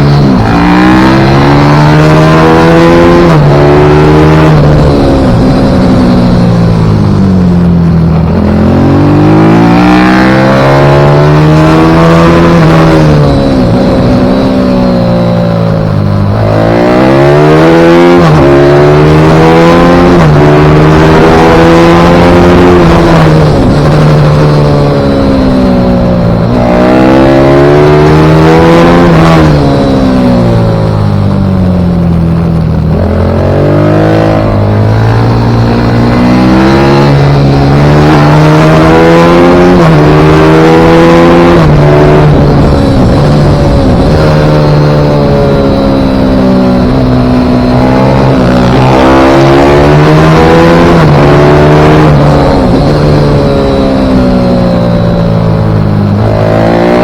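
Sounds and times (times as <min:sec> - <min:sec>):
pit bike engine revving: 0:00.0 - 0:31.3, 0:31.9 - 0:57.0.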